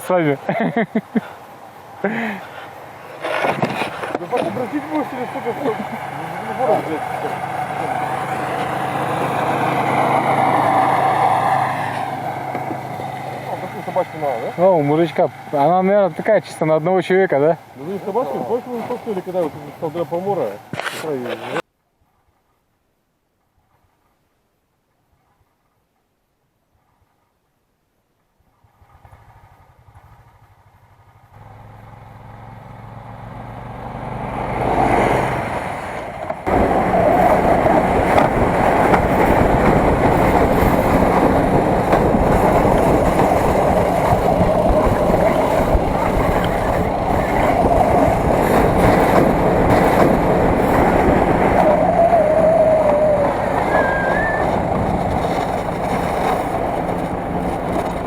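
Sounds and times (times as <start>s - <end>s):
snowmobile engine drone: 0.0s - 21.6s, 28.8s - 58.0s.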